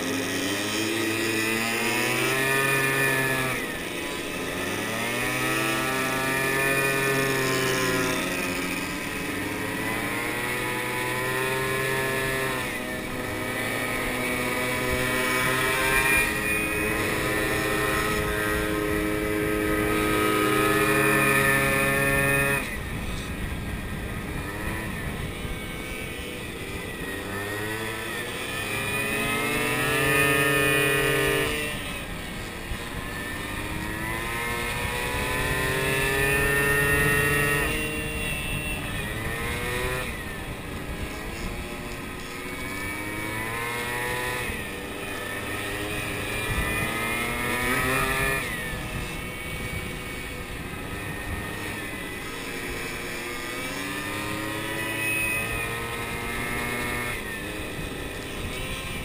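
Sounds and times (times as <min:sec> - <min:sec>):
moped engine revving: 0:00.0 - 0:59.0
wind noise on microphone: 0:00.0 - 0:59.0.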